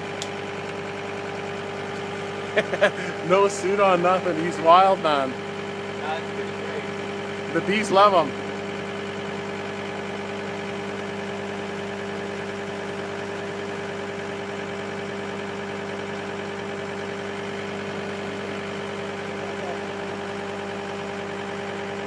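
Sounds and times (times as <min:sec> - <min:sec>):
loader engine idling: 0:00.0 - 0:22.0.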